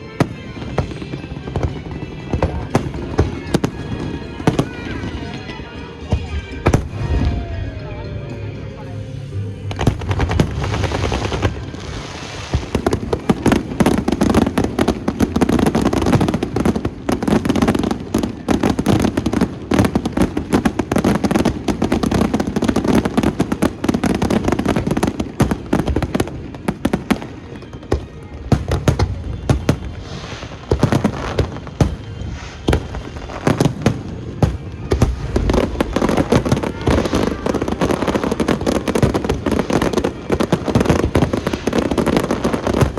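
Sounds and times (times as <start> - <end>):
fireworks bangs and crackles: 0.0 - 8.4, 9.6 - 42.9.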